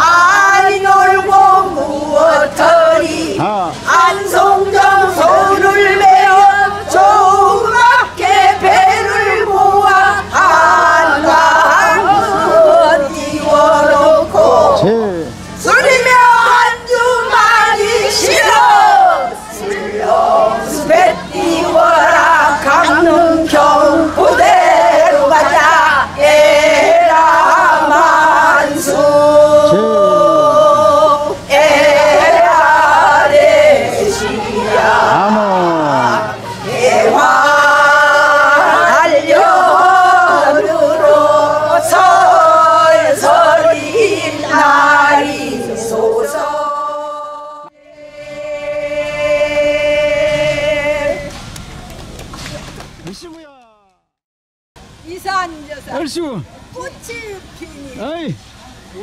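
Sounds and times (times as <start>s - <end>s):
women singing in unison: 0.0s - 14.9s, 15.6s - 51.6s.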